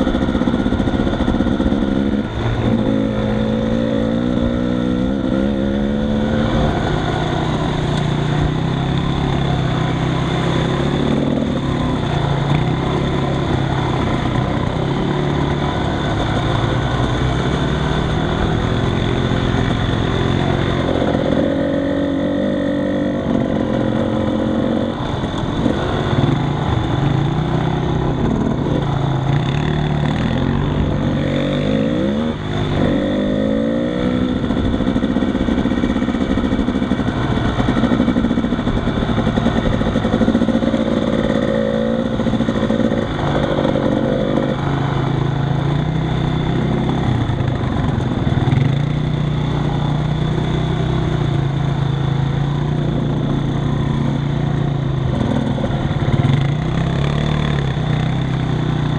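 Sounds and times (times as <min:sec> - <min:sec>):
atv engines running: 0:00.0 - 0:58.9.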